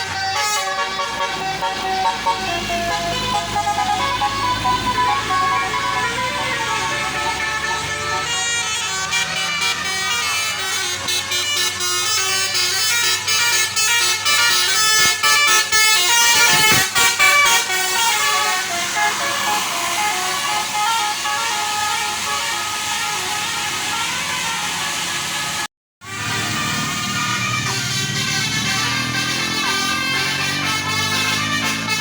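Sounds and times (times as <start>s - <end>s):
multi-tone air horn melody: 0.0s - 32.0s.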